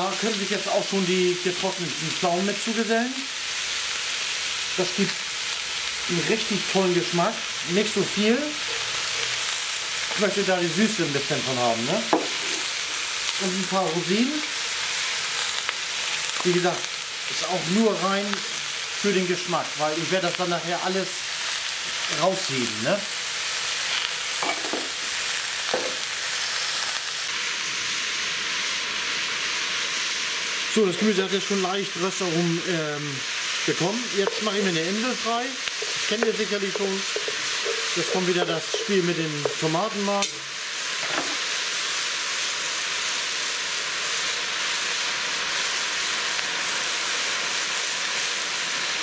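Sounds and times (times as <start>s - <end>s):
vegetables sizzling in a pot: 0.0s - 49.0s.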